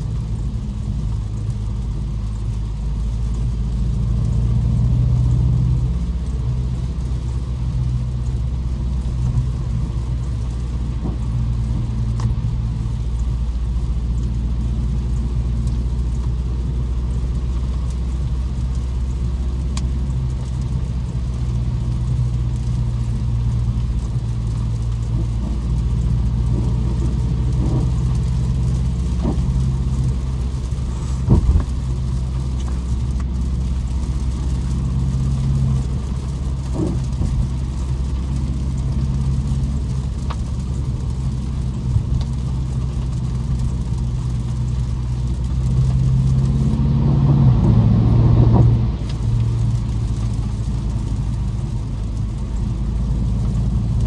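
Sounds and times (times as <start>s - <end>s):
car engine low drone: 0.0s - 54.0s.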